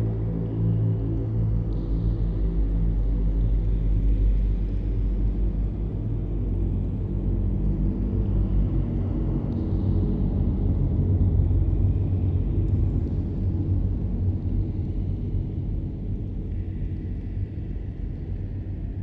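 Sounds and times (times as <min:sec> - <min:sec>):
low cave rumble: 0:00.0 - 0:19.0.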